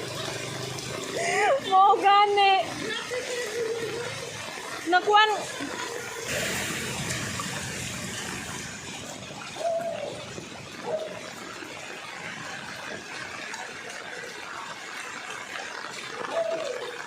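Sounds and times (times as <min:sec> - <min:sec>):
floodwater swishing and splashing: 0:00.0 - 0:17.0.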